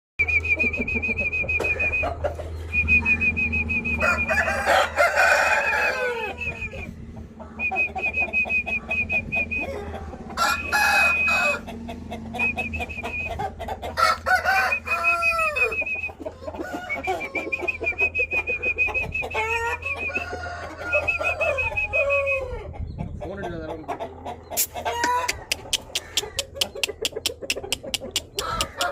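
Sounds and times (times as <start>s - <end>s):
chickens clucking: 0.2s - 28.9s.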